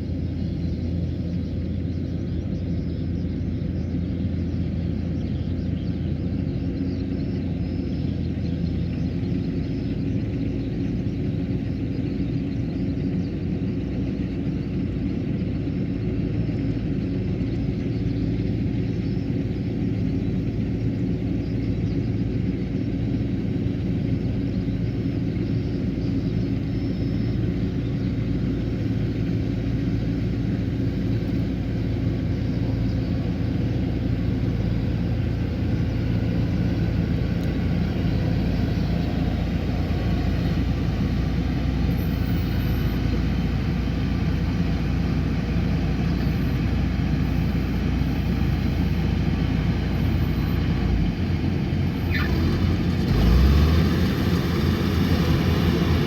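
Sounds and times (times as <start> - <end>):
combine harvester engine hum: 0.0 - 56.0.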